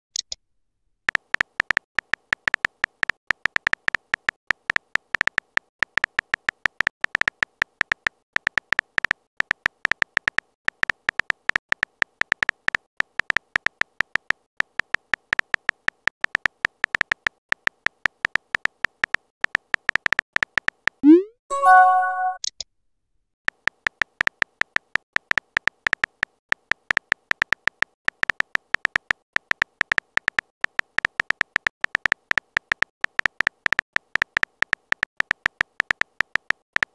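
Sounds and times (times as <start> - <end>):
keyboard typing clicks: 1.1 - 22.6, 23.6 - 36.9.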